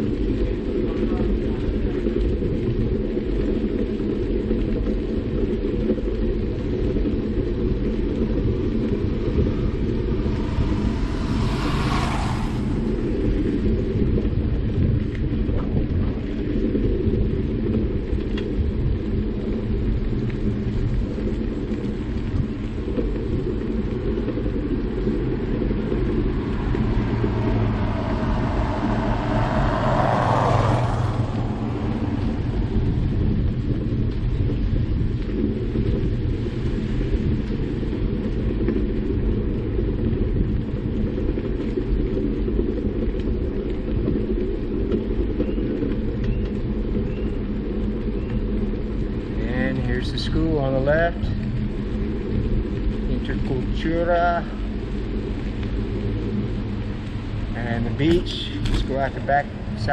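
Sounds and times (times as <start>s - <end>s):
wind rumble on microphone: 0.0s - 59.9s
vehicles passing: 6.8s - 15.6s, 19.8s - 59.9s.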